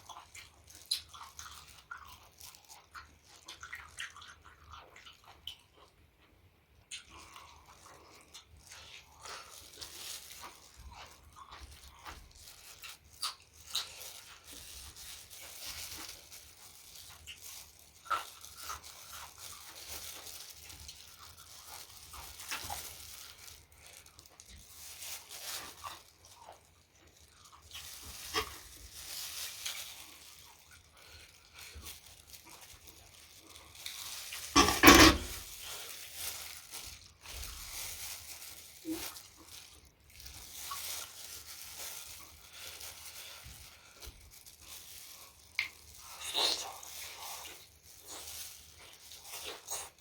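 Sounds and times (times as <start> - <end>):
person chewing with wet mouth sounds: 0.0 - 50.0.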